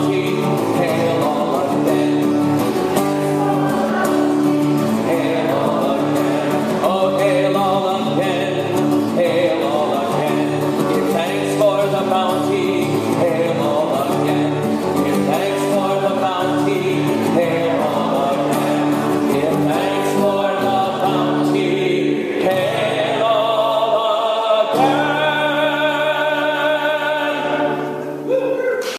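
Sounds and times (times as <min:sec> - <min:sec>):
congregation singing a hymn: 0:00.0 - 0:28.2.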